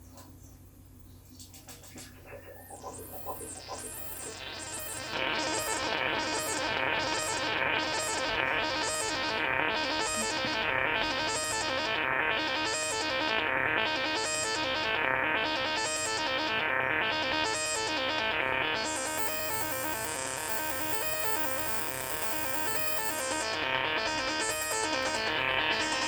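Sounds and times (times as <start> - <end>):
distorted synthesizer filter sweeps: 2.3 - 26.0.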